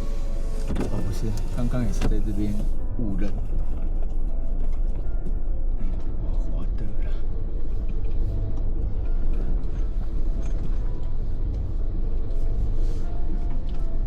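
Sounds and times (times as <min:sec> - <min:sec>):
background music: 0:00.0 - 0:14.0
car engine low rumble: 0:00.0 - 0:14.0.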